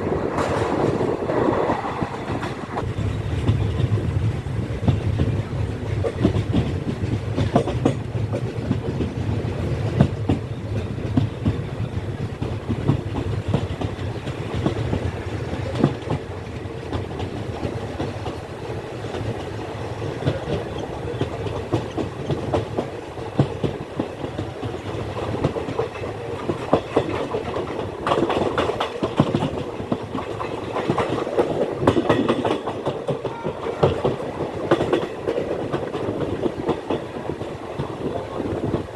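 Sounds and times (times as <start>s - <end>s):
train rumbling along track: 0.0s - 38.9s
wheels clacking over rails: 0.0s - 38.9s.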